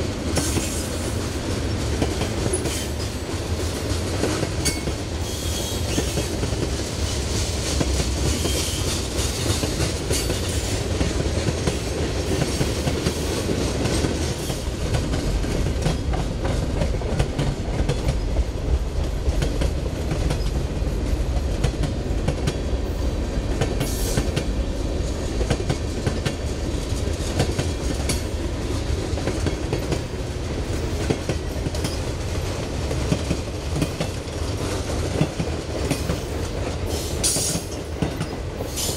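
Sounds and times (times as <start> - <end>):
train wheels rumbling: 0.0 - 38.9
wheels clacking on rails: 0.0 - 38.9.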